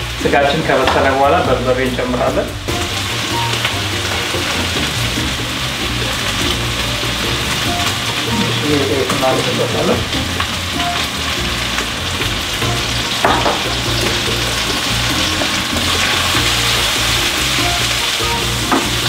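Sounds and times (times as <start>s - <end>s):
onions and meat sizzling in oil: 0.0s - 19.0s
wooden spoon stirring in pan: 2.8s - 19.0s.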